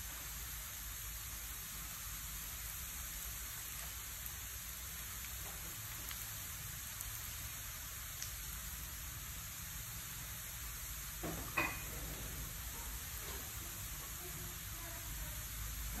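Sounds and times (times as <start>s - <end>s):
sizzling in frying pan: 0.0s - 16.0s.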